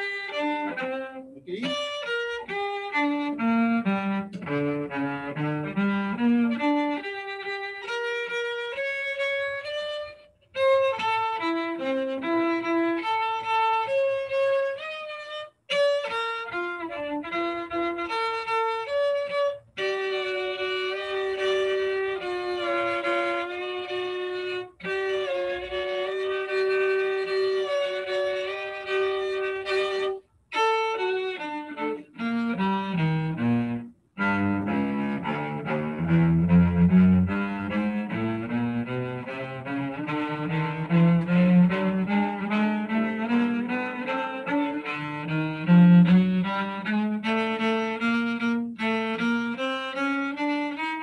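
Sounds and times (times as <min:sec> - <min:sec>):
bowed solo cello: 0:00.0 - 0:51.0.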